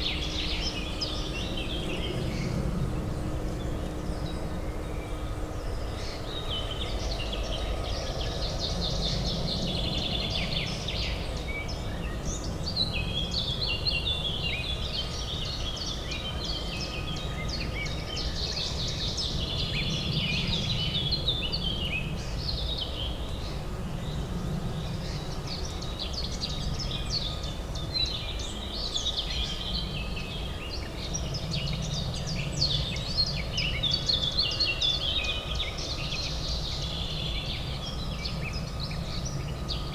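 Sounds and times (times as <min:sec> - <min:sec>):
low urban hum: 0:00.0 - 0:39.9.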